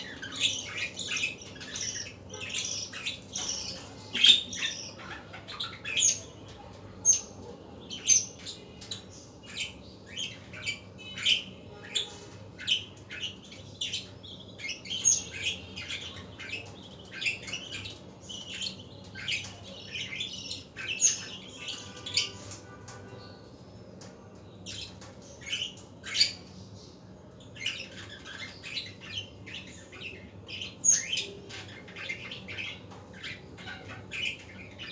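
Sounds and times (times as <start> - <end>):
budgerigars chattering: 0.0 - 22.5, 27.4 - 34.9.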